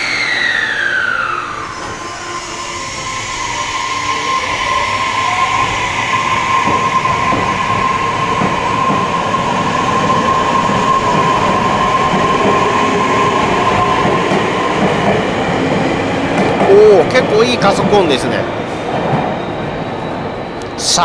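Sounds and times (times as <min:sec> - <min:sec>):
electric train drive whine: 0:00.0 - 0:21.0
train wheels on rails: 0:00.0 - 0:21.0.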